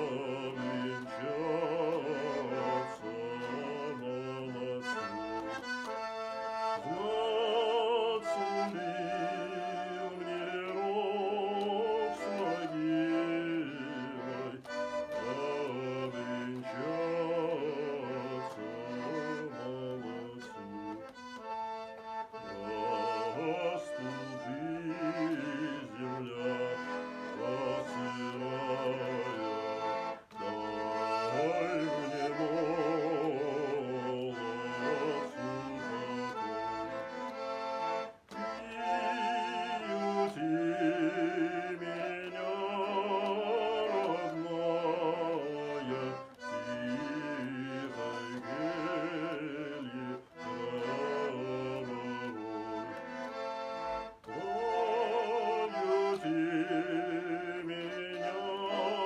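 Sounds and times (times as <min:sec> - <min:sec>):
man singing with vibrato: 0:00.0 - 0:05.9, 0:06.7 - 0:21.4, 0:22.3 - 0:37.0, 0:38.1 - 0:53.3, 0:54.1 - 0:59.0
button accordion playing: 0:00.0 - 0:59.0.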